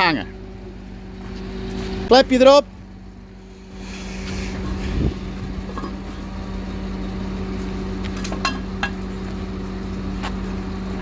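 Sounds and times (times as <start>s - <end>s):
tanker engine droning: 0.0s - 11.0s.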